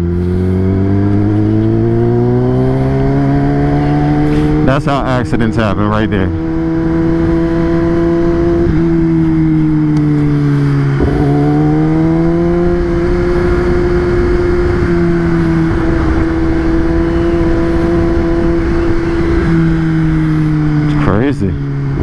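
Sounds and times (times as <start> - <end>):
motorcycle engine running: 0.0 - 22.0
wind rush: 0.2 - 21.1.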